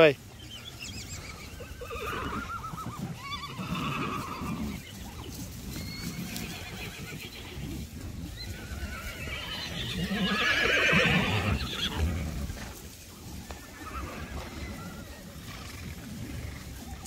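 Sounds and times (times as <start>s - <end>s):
horses whinnying: 0.0s - 17.0s.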